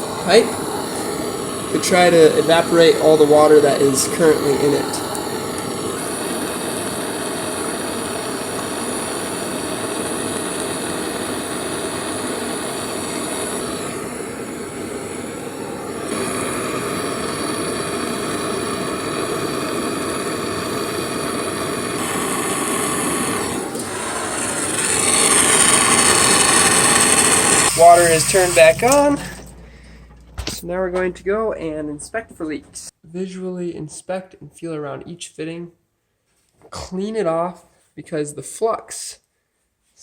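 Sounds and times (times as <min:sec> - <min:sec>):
gas torch flame hissing: 0:00.0 - 0:32.9.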